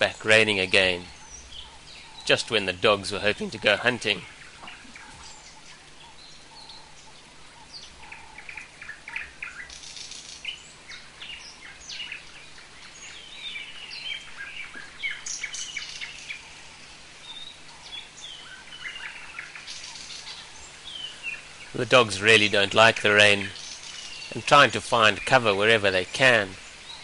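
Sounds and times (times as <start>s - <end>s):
birds chirping: 0.0s - 27.0s
rain hissing: 0.0s - 27.0s.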